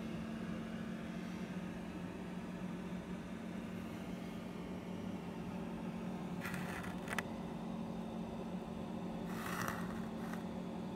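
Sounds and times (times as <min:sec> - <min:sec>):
low mechanical hum: 0:00.0 - 0:10.9.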